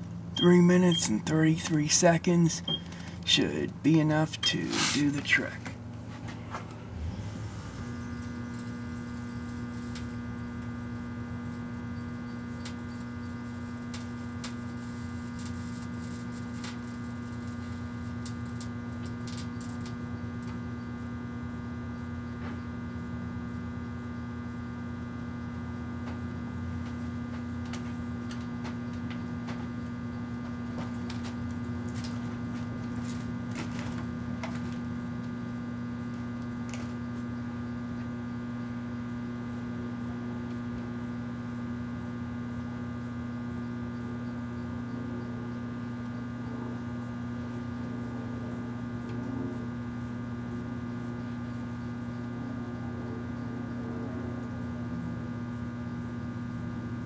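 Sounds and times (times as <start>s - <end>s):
microwave oven humming: 0.0s - 57.0s.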